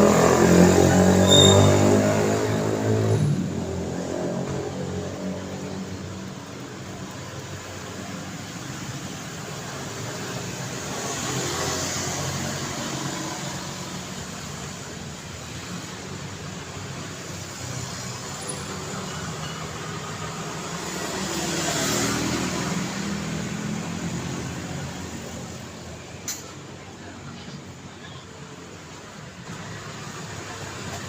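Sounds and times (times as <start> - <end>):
road traffic noise: 0.0 - 31.0
vehicles passing: 0.0 - 31.0.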